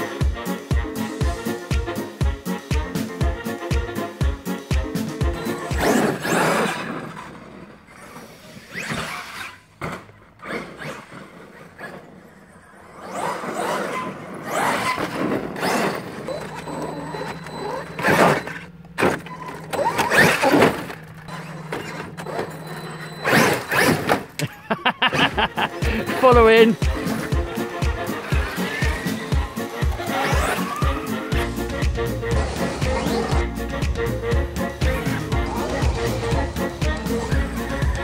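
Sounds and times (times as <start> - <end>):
rc truck motor whine: 5.2 - 24.5, 26.8 - 38.0.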